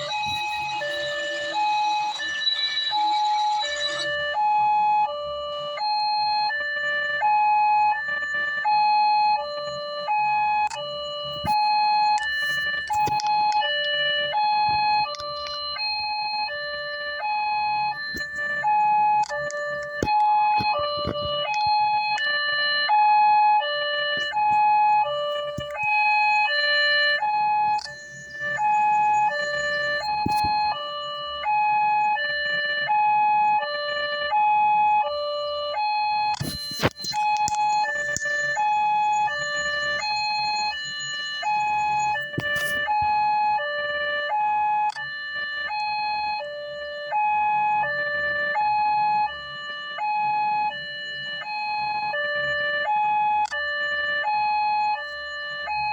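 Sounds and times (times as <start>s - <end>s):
electronic two-tone siren: 0.0s - 55.9s.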